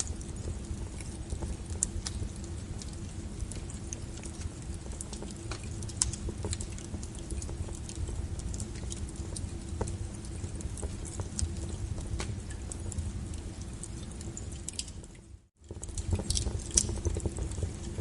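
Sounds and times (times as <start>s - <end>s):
low rumble of flames: 0.0s - 18.0s
wood fire popping and snapping: 0.0s - 18.0s.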